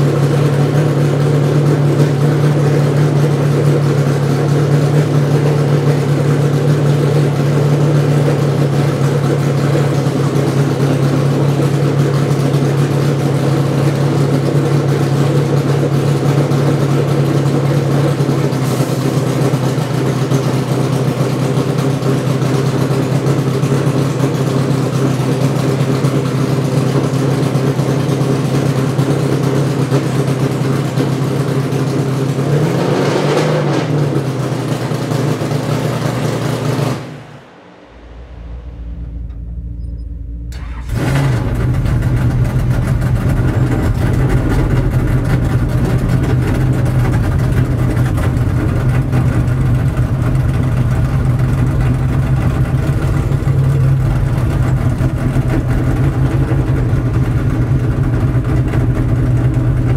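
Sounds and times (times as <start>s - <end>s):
race car engine idling: 0.0s - 32.8s, 33.8s - 59.9s.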